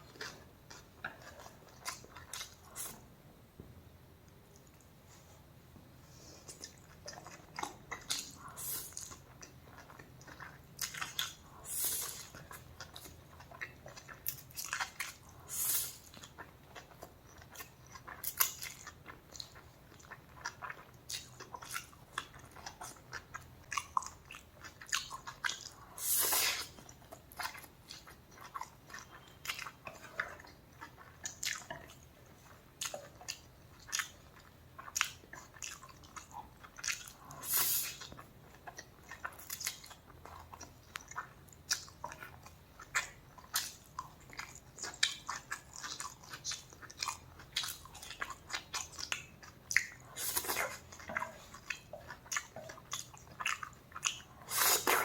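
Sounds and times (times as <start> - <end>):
person chewing food: 0.0 - 3.1, 6.0 - 55.0.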